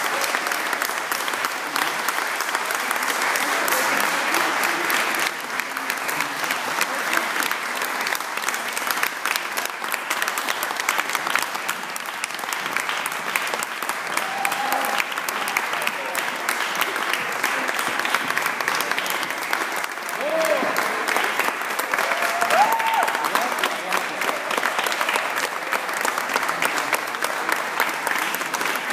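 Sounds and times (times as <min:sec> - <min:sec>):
audience clapping: 0:00.0 - 0:28.9.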